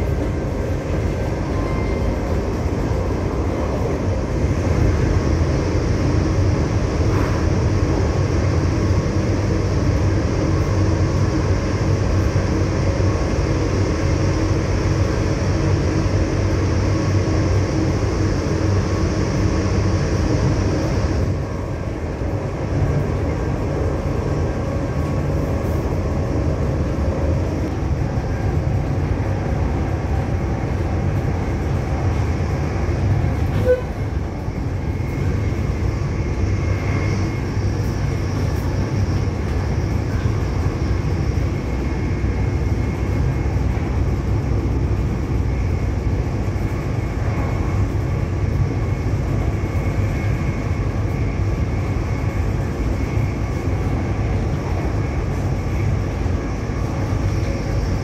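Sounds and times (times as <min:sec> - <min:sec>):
diesel train engines rumbling: 0:00.0 - 0:58.0.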